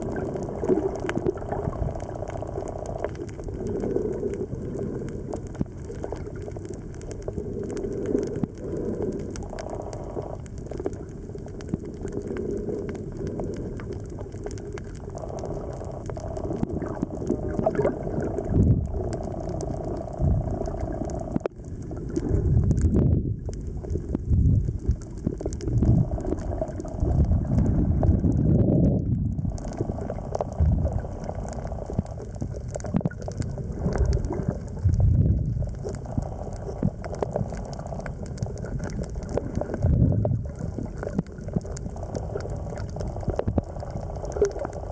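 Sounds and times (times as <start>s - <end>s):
low bubbling rumbles: 0.0s - 44.9s
underwater gurgling and bubbling: 0.0s - 44.9s.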